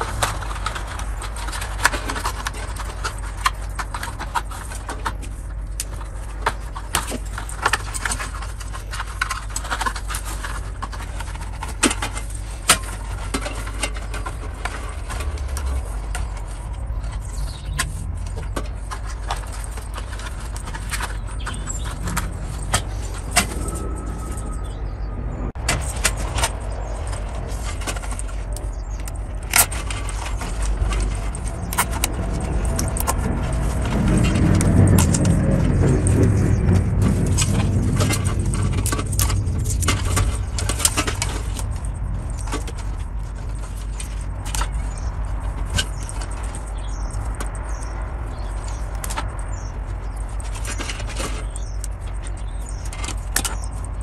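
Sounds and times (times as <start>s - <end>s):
cables rustling and clicking on plastic: 0.0s - 24.8s, 25.5s - 54.0s
steady low rumble: 0.0s - 54.0s.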